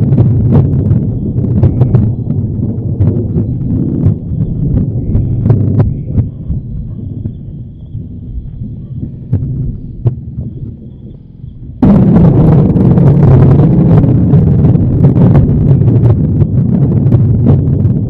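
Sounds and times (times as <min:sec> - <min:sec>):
dense crackling rumble: 0:00.0 - 0:18.0
low throbbing pulse: 0:00.0 - 0:18.0.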